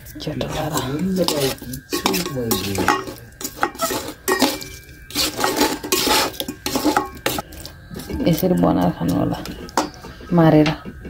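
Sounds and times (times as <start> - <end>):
metal tongs scraping a steel bowl: 0.0 - 10.6.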